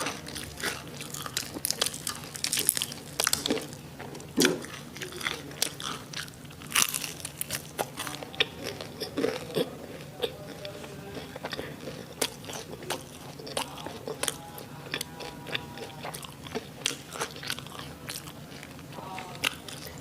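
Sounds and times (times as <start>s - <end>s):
crunchy biting and chewing: 0.0s - 20.0s.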